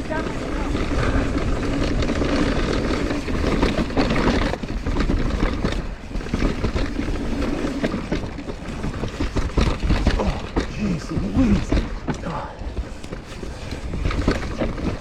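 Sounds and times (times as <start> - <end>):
bike clattering over bumps: 0.0 - 15.0
tyres over dirt and rocks: 0.0 - 15.0
wind rumbling on microphone: 0.0 - 15.0.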